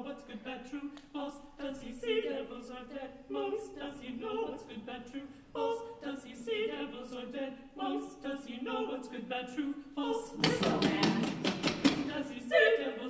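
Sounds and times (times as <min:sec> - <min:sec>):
women's choir singing unaccompanied: 0:00.0 - 0:13.0.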